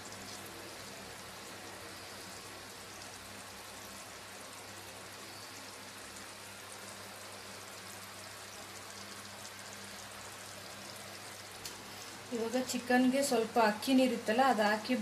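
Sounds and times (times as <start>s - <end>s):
gravy simmering in a pot: 0.0s - 15.0s.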